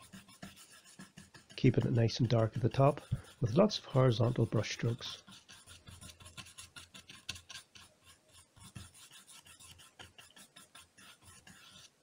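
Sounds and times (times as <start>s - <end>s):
brush scrubbing paint on board: 0.0s - 12.0s.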